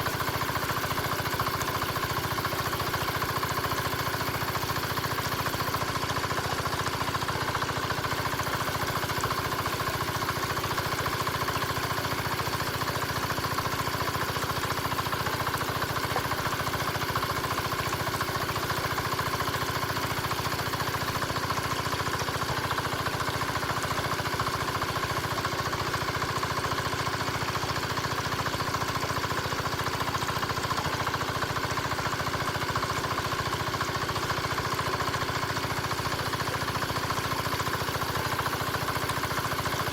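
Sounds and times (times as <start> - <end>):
small diesel engine idling: 0.0 - 39.9.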